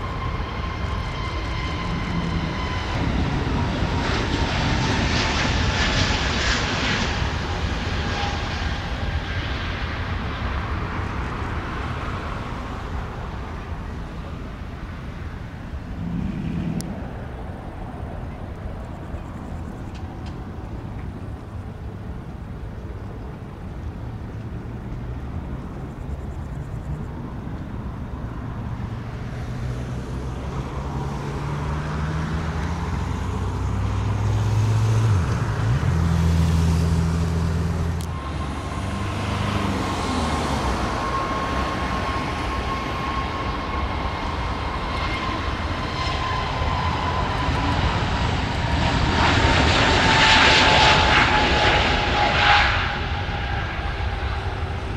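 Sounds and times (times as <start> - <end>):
jet engine whine: 0.0 - 54.9
low engine drone: 0.0 - 54.9.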